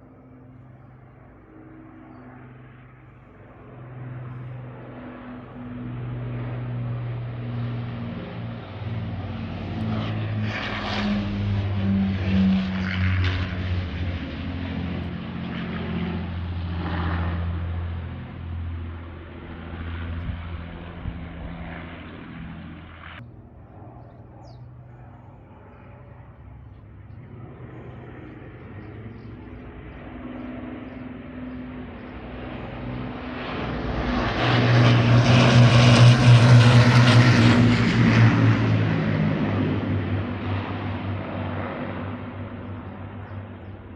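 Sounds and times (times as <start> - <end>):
aircraft piston engines droning: 0.0 - 43.9.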